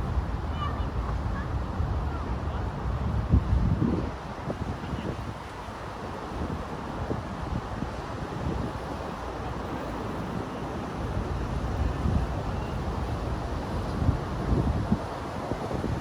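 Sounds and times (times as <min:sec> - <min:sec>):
wind buffeting microphone: 0:00.0 - 0:05.5, 0:06.1 - 0:16.0.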